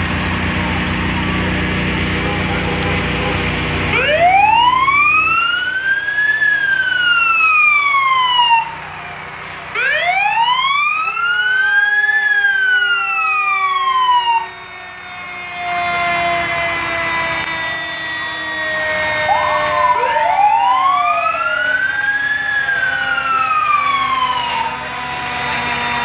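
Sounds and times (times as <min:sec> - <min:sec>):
fire engine siren wailing: 0:00.0 - 0:26.0
truck engine rumble: 0:00.0 - 0:26.0.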